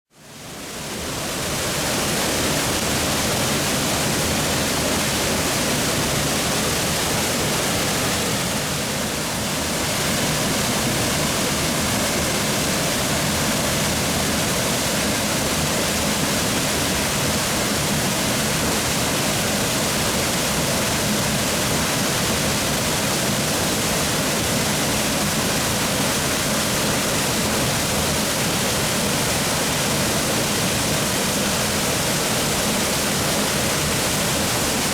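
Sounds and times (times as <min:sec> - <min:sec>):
waterfall rushing onto rock: 0:00.6 - 0:34.9.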